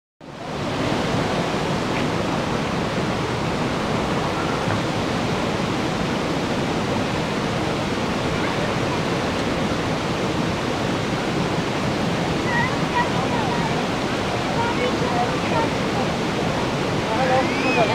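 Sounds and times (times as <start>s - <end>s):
creek rushing over stones: 0.2s - 17.9s.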